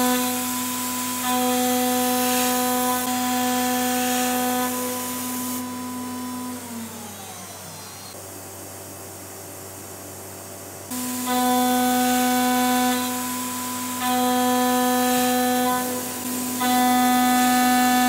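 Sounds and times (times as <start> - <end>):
router spindle whine: 0.0 - 8.2, 10.9 - 18.0.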